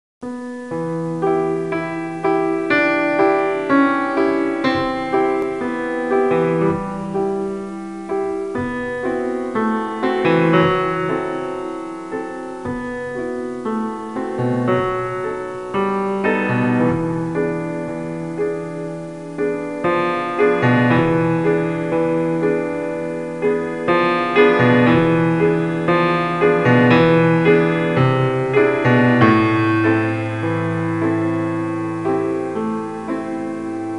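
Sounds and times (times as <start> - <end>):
piano music: 0.2 - 33.9.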